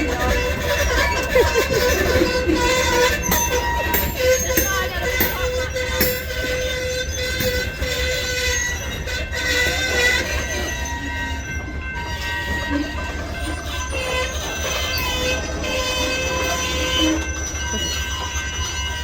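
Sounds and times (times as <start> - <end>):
train rumbling on rails: 0.0 - 19.0
train wheels squealing: 0.0 - 19.0.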